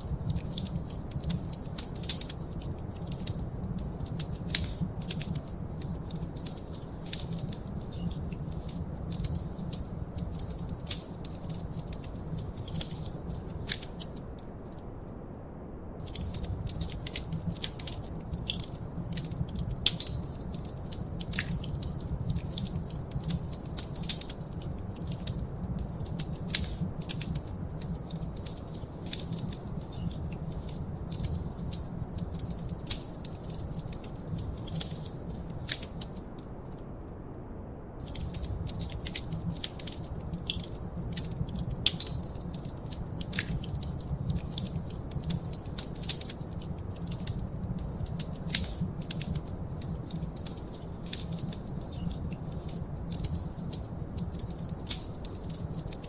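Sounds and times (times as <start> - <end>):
wood fire crackling: 0.0 - 14.8, 16.0 - 37.2, 38.0 - 56.0
low rumble of flames: 0.0 - 56.0.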